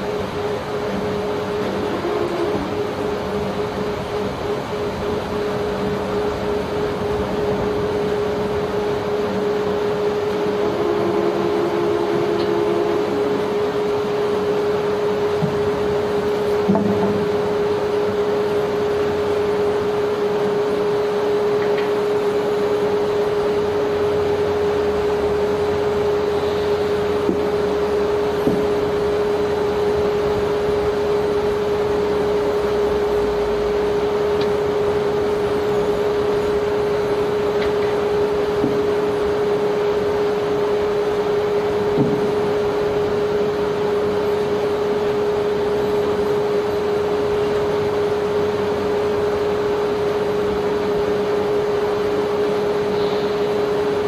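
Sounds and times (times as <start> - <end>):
unloading machinery droning: 0.0 - 54.0.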